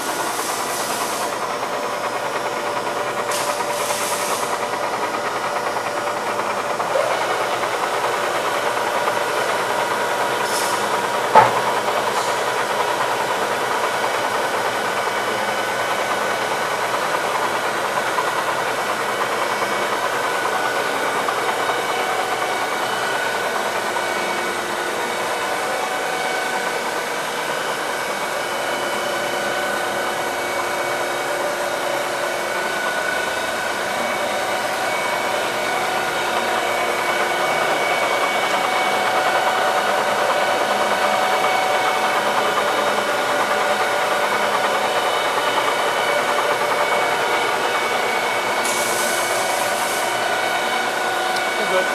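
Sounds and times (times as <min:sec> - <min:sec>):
boring mill machine whine: 0:00.0 - 0:51.9.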